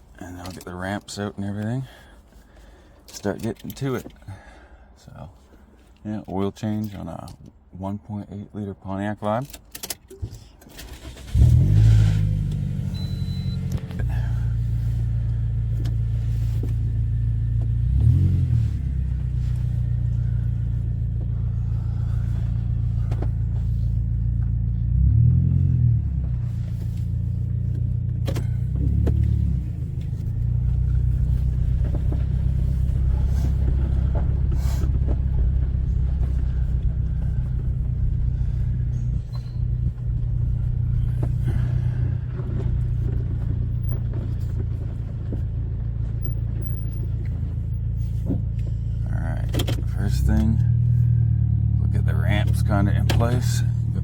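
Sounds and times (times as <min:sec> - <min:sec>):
car engine starting and running: 0:09.4 - 0:54.0.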